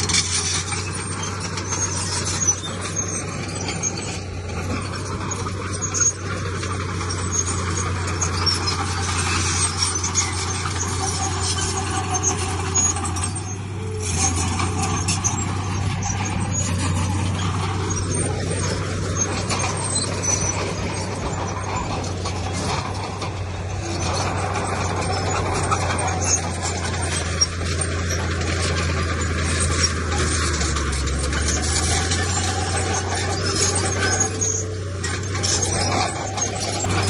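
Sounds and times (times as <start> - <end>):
diesel engine drone: 0.0 - 37.0
metal and stone clanking and scraping: 0.0 - 37.0.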